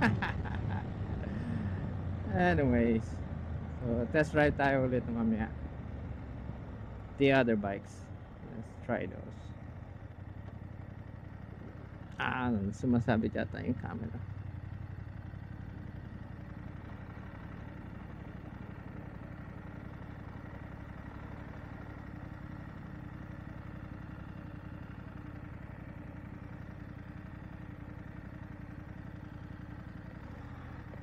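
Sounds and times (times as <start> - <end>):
motorcycle engine running at low revs: 0.0 - 31.0.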